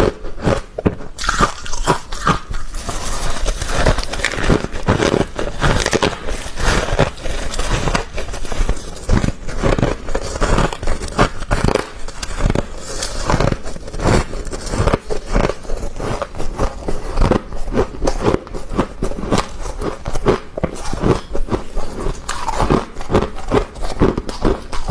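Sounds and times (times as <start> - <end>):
frost being chewed crunching: 0.0 - 24.9.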